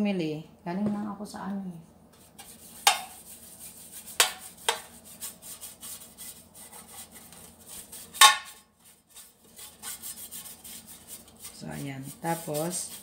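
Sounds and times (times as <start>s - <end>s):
pastry brush scraping metal pan: 2.2s - 13.0s.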